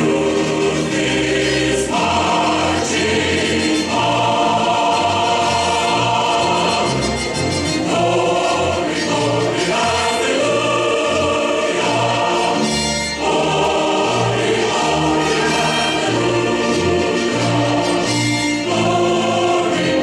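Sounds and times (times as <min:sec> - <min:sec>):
choir singing with accompaniment: 0:00.0 - 0:20.0.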